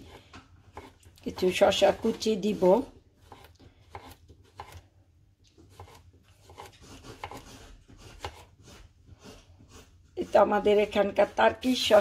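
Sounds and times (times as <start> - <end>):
knife slicing cucumber on board: 0.0 - 4.8, 5.6 - 10.9.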